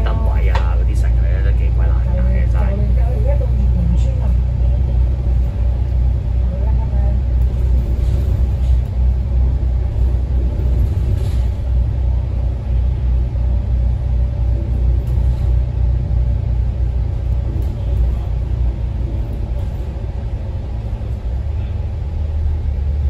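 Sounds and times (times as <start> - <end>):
bus engine rumble: 0.0 - 23.0.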